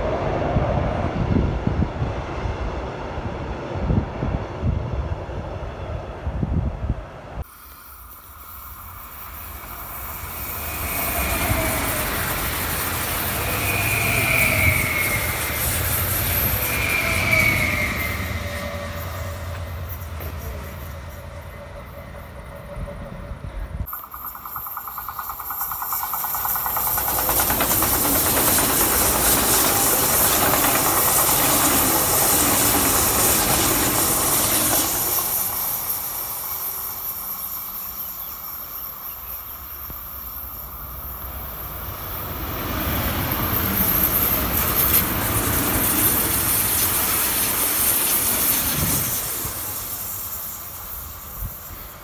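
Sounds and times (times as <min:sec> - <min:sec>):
train rushing past: 0:00.0 - 0:52.0.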